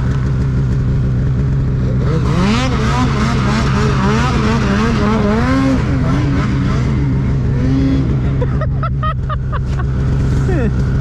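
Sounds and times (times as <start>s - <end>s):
snowmobile engine under throttle: 0.0s - 11.0s.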